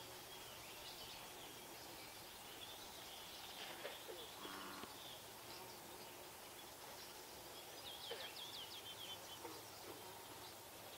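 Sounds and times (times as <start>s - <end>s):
outdoor background noise: 0.0s - 10.9s.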